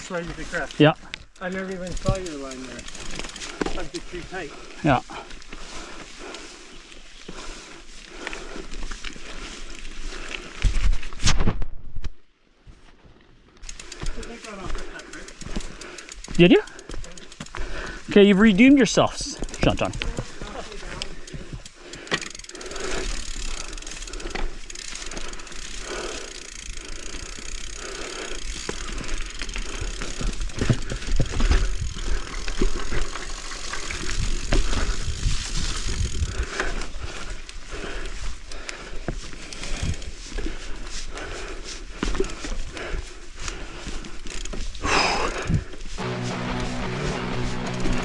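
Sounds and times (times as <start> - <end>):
bike rattling and knocking: 0.0 - 5.2, 13.6 - 38.0, 38.6 - 48.0
tyres running over dirt: 0.0 - 11.0, 13.5 - 48.0.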